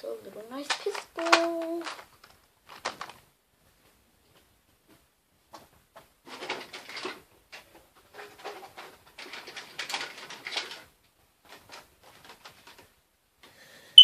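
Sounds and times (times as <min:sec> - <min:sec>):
objects moved and rustled: 0:00.0 - 0:13.0.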